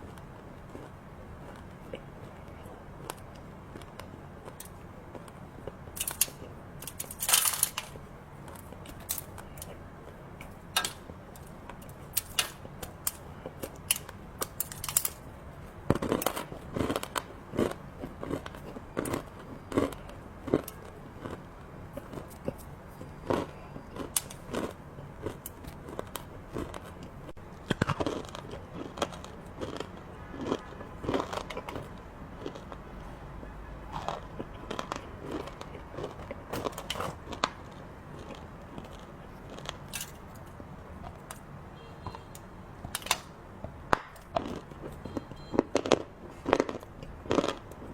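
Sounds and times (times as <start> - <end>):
crunchy chocolate chewing: 0.0 - 33.1, 33.8 - 41.4, 43.7 - 47.9.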